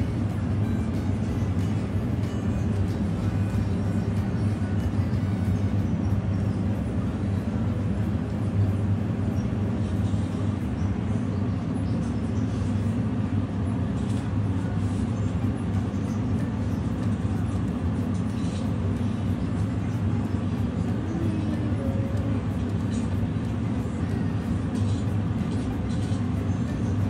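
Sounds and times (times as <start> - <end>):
low hum and rumble: 0.0 - 27.0.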